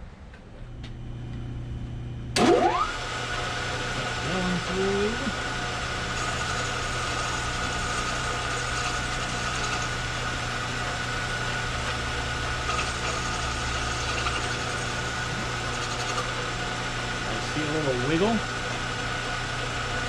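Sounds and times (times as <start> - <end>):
lathe running with high whine: 2.4 - 20.0.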